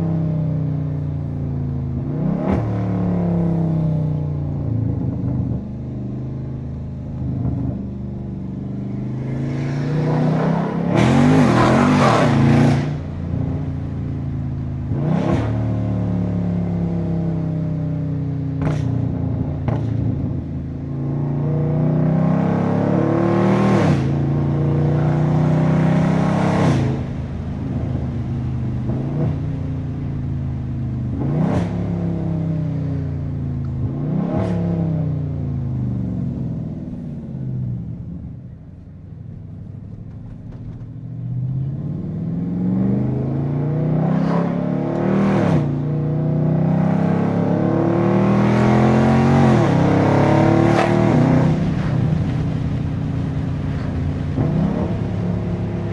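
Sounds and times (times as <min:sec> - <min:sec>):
car engine revving: 0:01.9 - 0:38.5, 0:39.3 - 0:55.9.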